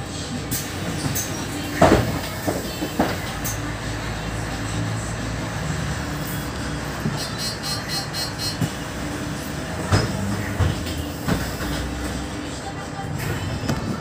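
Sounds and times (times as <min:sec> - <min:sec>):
bus diesel engine idling: 0:00.0 - 0:14.0.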